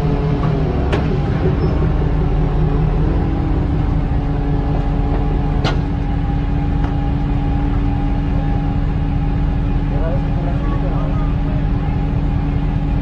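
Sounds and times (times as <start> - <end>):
truck engine humming: 0.0 - 13.0.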